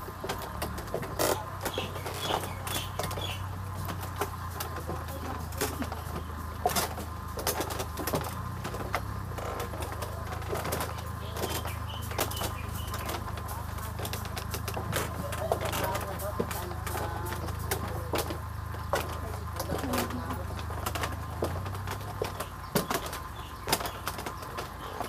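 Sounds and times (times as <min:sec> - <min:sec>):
footsteps on bamboo slats: 0:00.0 - 0:25.0.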